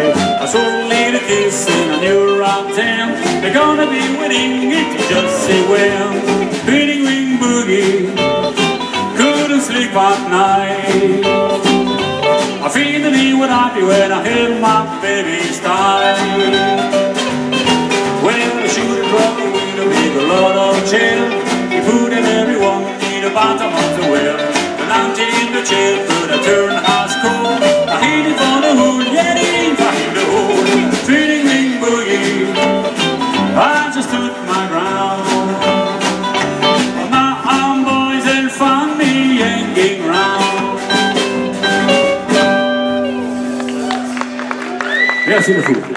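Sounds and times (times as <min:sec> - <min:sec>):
acoustic guitar strumming: 0:00.0 - 0:44.8
steady drum beat: 0:00.0 - 0:45.9.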